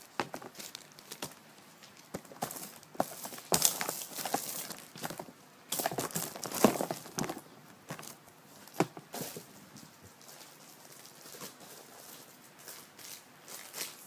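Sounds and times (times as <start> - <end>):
rustling and crinkling handling: 0.0 - 14.0.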